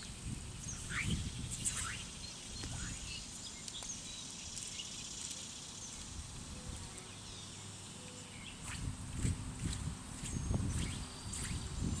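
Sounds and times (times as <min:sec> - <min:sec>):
low rumble of wind: 0:00.0 - 0:12.0
small birds chirping: 0:00.0 - 0:12.0
steady high hiss: 0:00.0 - 0:12.0.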